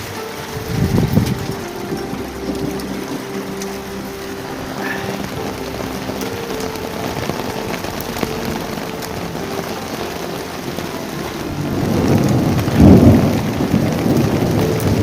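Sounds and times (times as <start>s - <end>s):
heavy rain: 0.0s - 15.0s
thunder rumbling: 0.0s - 15.0s.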